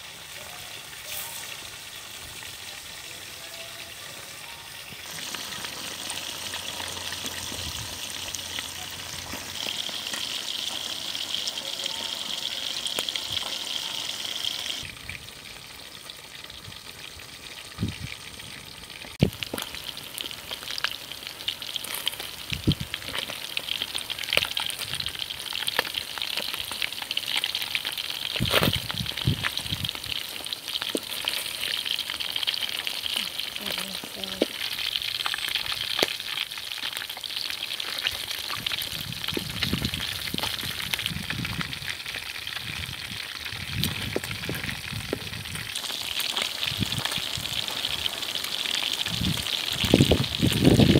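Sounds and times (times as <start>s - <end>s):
fish sizzling in oil: 0.0s - 50.9s.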